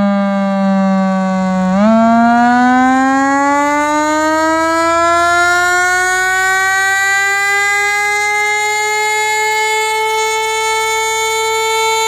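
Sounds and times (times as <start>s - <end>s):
air-raid siren wailing: 0.0s - 12.0s.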